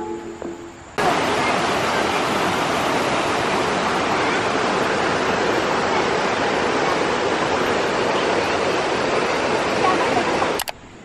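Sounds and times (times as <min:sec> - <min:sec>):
stream rushing over stones: 0:01.0 - 0:10.6.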